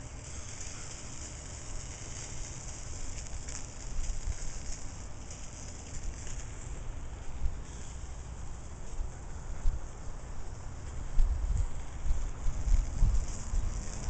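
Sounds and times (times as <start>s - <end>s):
sausage sizzling on grill: 0.0s - 14.0s.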